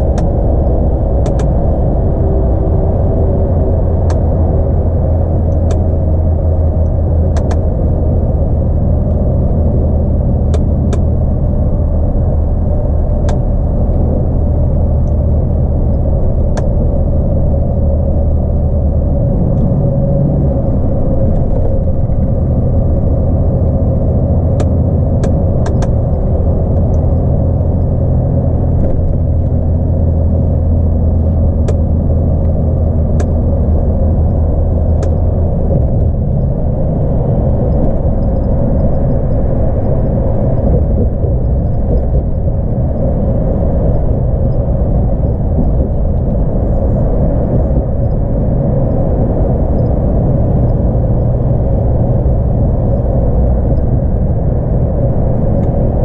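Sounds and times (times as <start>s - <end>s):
truck diesel engine droning: 0.0s - 56.0s
tyre and road noise: 0.0s - 56.0s.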